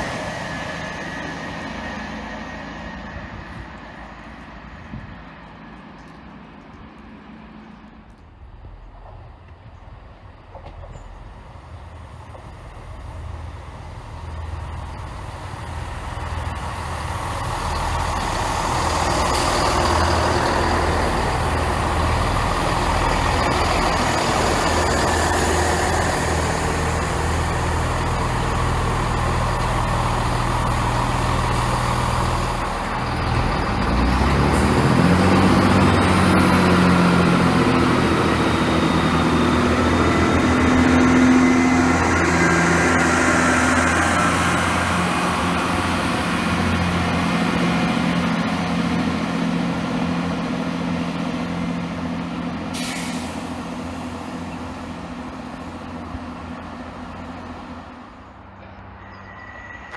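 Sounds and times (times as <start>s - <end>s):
diesel train passing: 0.0s - 59.9s.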